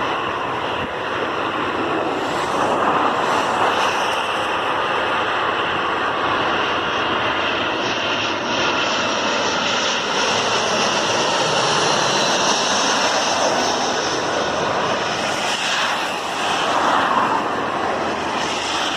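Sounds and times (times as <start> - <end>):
jet engines rushing: 0.0 - 18.9.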